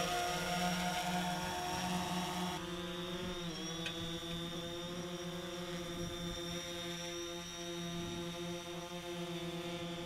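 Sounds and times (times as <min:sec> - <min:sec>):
drone propellers buzzing: 0:00.0 - 0:10.0.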